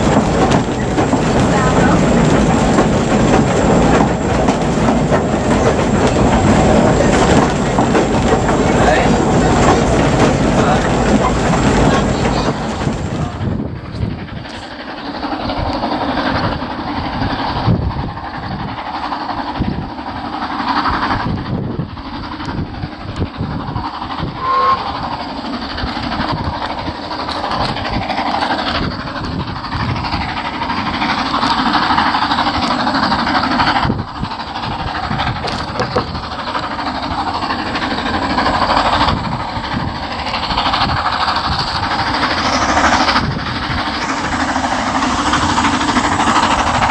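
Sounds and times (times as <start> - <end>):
steam locomotive exhaust beats: 0.0 - 46.9
wheels on rails: 0.0 - 46.9.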